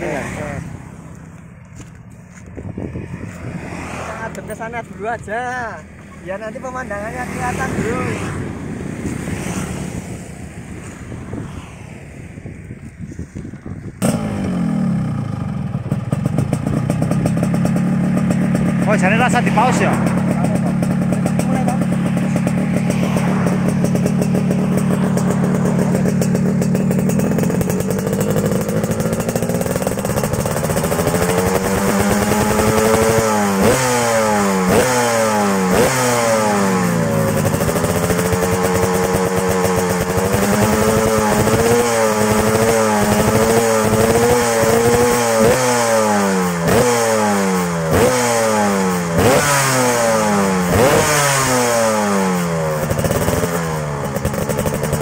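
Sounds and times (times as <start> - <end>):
two-stroke motorcycle engine revving: 0.0 - 12.8, 13.5 - 55.0.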